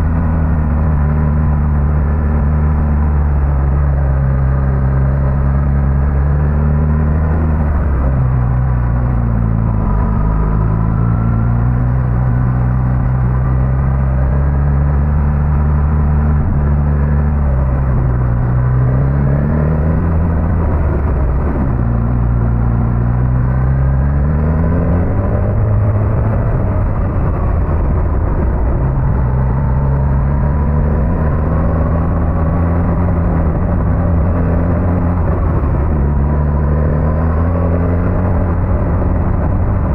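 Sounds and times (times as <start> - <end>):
muffled motorcycle engine revving: 0.0 - 39.9.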